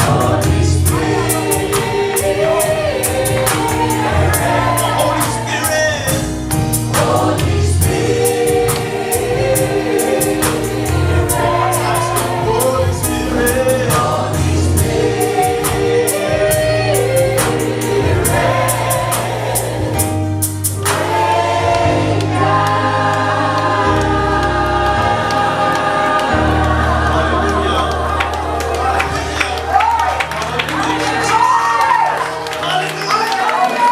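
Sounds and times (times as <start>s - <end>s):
choir singing: 0.0s - 33.9s
live band playing: 0.0s - 33.9s.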